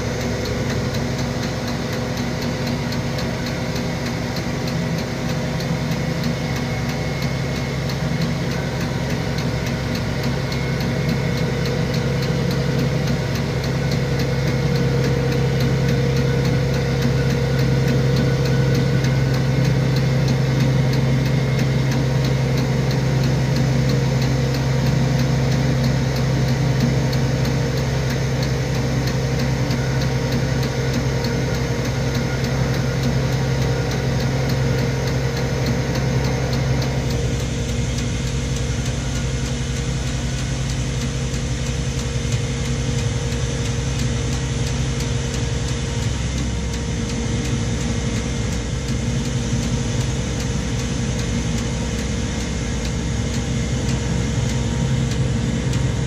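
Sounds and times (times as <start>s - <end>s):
steady low hum: 0.0s - 56.0s
truck engine running: 0.0s - 56.0s.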